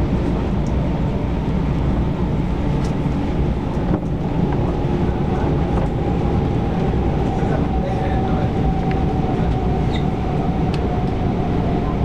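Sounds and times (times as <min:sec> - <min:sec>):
train rumble from inside: 0:00.0 - 0:12.0.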